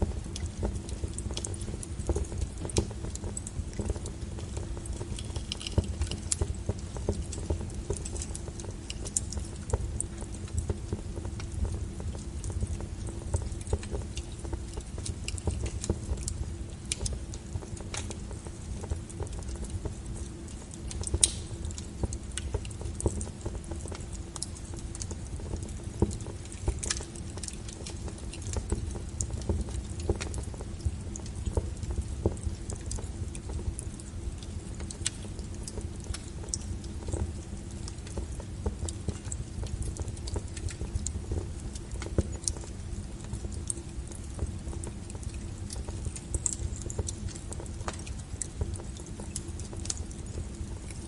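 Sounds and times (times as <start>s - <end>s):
low rumble of burning logs: 0.0s - 51.0s
wood fire crackling: 0.0s - 51.0s.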